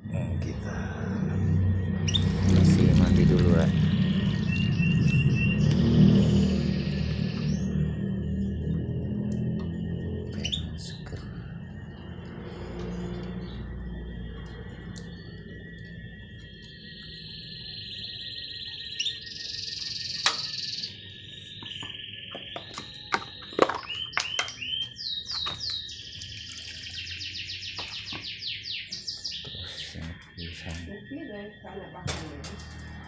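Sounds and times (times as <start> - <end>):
canary singing trills: 0.2 - 33.0.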